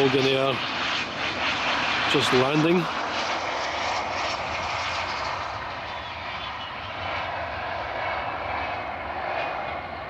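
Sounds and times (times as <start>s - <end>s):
airliner engines roaring: 0.0s - 10.0s
faint high engine whine: 0.0s - 10.0s.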